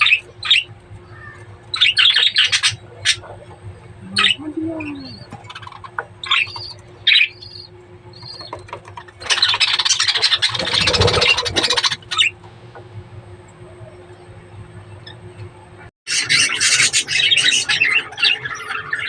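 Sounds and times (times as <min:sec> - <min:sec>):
budgerigars chirping and squawking: 0:00.0 - 0:12.4, 0:16.1 - 0:19.0.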